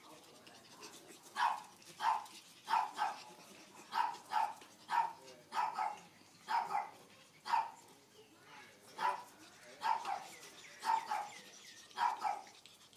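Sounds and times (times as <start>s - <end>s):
puppies yapping: 1.3s - 7.8s, 9.0s - 12.9s.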